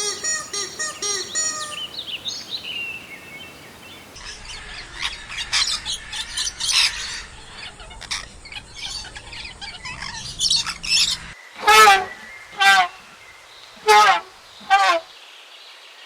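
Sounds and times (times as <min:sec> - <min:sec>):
flock of birds chirping: 0:00.0 - 0:15.5.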